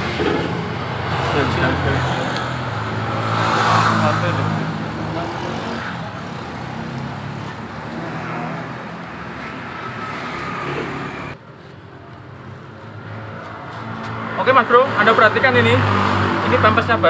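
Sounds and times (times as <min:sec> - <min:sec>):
vehicle engine and traffic hum: 0:00.0 - 0:17.0.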